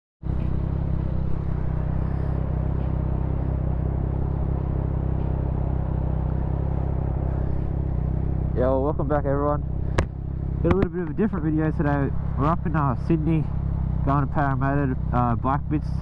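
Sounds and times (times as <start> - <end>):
motorcycle engine drone: 0.2 - 16.0
road noise: 0.2 - 16.0.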